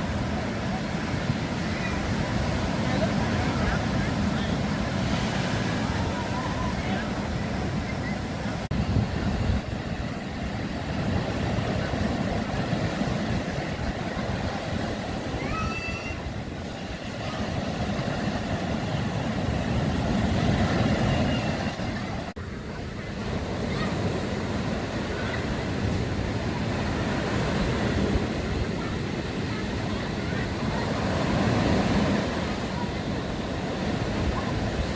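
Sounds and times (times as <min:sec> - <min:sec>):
sea surf: 0:00.0 - 0:34.9
wind on microphone: 0:00.0 - 0:34.9.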